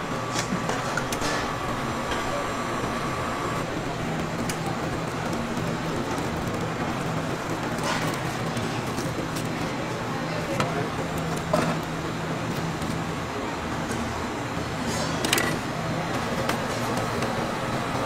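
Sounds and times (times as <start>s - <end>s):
low hum of food stall: 0.0s - 18.0s.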